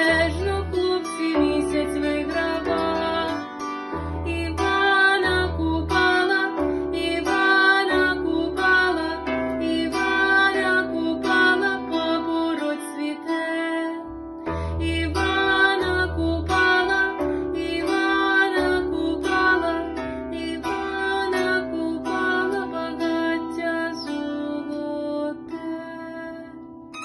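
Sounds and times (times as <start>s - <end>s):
plucked string melody: 0.0s - 27.0s.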